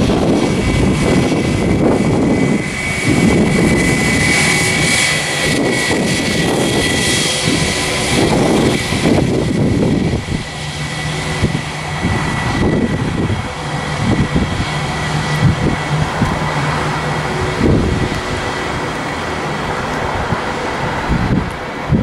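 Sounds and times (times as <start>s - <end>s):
jet engines whining: 0.0s - 22.0s
wind buffeting microphone: 0.0s - 22.0s.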